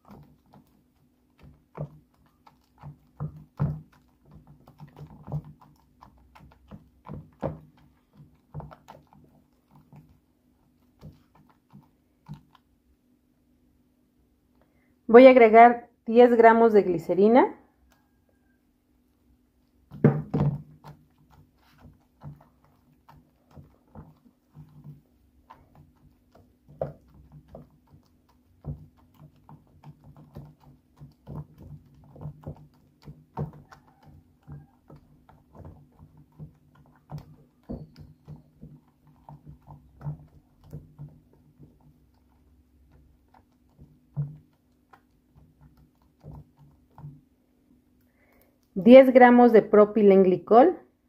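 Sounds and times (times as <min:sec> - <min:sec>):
spatula stirring sticky paste: 0:00.0 - 0:14.9, 0:16.9 - 0:50.0.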